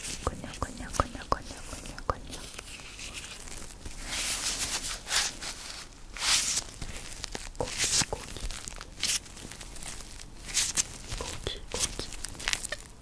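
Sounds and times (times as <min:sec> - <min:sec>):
rubber gloves rustling and crinkling: 0:00.0 - 0:13.0.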